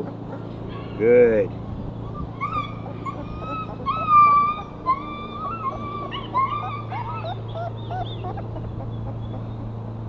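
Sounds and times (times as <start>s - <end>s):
puppies whimpering: 0.0s - 9.6s.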